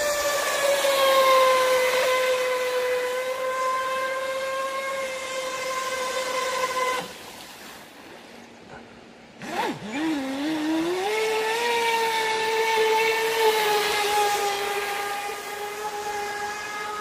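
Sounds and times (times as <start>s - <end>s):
electric motor whining: 0.0s - 7.1s, 9.4s - 17.0s.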